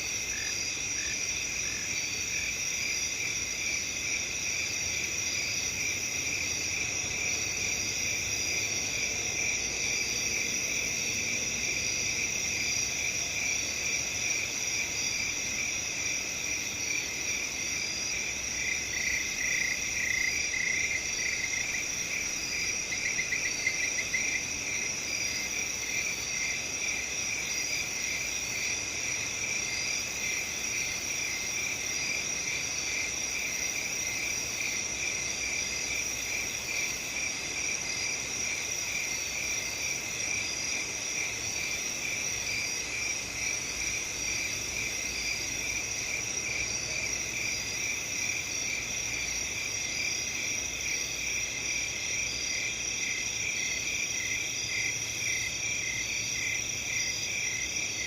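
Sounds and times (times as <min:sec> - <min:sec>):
crickets chirping: 0:00.0 - 0:58.0
nearby cricket pulsing: 0:00.0 - 0:58.0.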